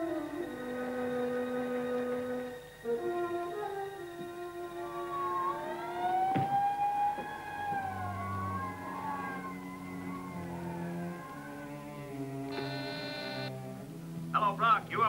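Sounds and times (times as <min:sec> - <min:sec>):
alarm siren wailing: 0:00.0 - 0:13.5
low steady tones: 0:00.0 - 0:15.0.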